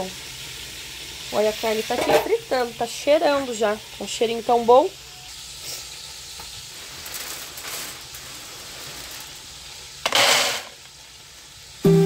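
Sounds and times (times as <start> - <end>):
pork sizzling in a pan: 0.0 - 12.0.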